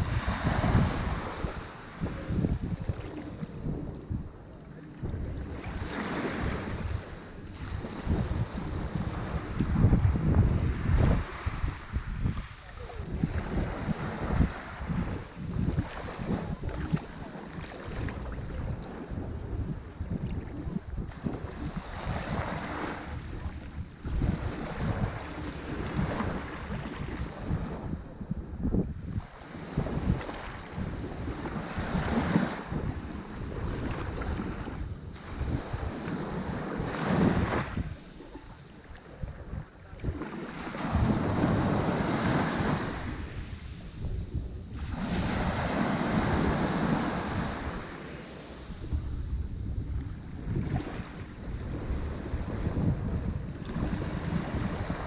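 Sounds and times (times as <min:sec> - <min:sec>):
ocean waves breaking on shore: 0:00.0 - 0:55.0
wind buffeting microphone: 0:00.0 - 0:55.0.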